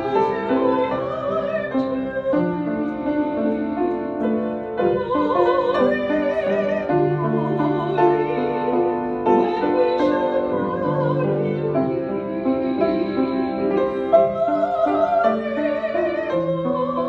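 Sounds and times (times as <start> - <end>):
person singing with vibrato: 0.0 - 3.3, 4.6 - 17.0
hymn on upright piano: 0.0 - 17.0.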